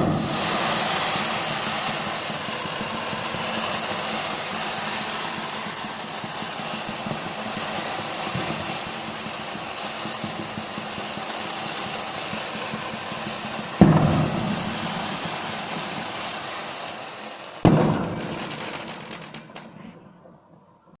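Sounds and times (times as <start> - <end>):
loud firework bangs echoing: 0.0 - 20.7
steady crackling hiss: 0.0 - 20.9.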